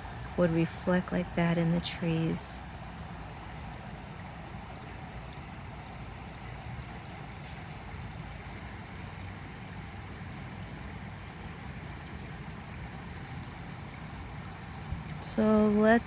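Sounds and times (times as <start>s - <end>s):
faint hiss: 0.0s - 16.0s.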